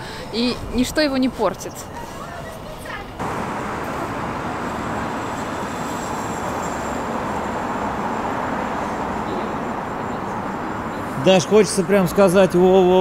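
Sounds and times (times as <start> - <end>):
city traffic rushing: 0.0 - 13.0.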